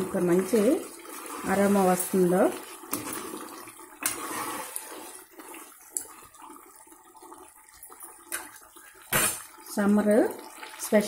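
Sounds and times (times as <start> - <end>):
ladle stirring thick curry: 0.1 - 9.0.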